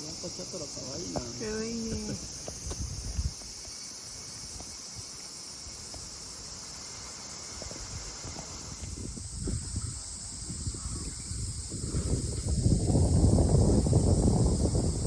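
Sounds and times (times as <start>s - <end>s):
insect chorus chirring: 0.0s - 15.0s.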